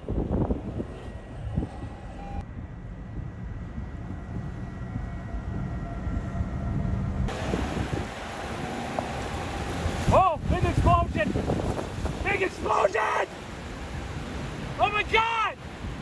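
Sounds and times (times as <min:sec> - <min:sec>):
tornado rumbling roar: 0:00.0 - 0:15.0
storm wind: 0:00.0 - 0:16.0.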